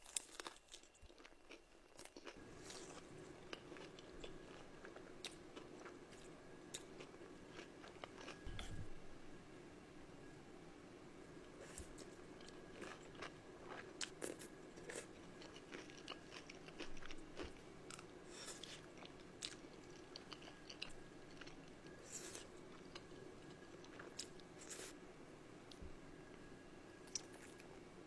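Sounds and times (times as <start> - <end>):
crunchy chewing: 0.0 - 8.8, 11.6 - 25.0, 27.0 - 27.7.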